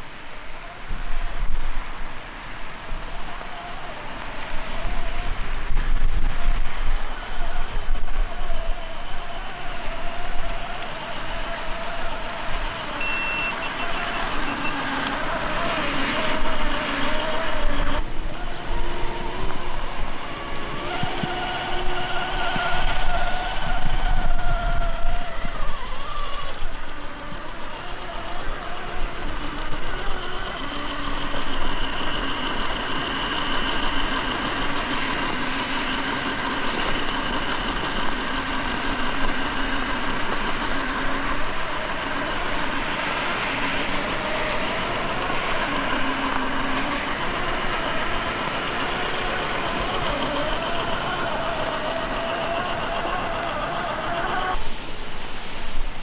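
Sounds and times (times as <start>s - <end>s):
rc car motor whining: 2.7s - 54.6s.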